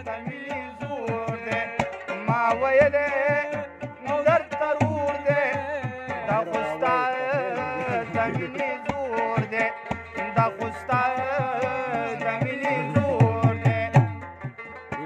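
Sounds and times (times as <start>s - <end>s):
hand drum strikes: 0.0s - 15.0s
two men singing: 0.0s - 15.0s.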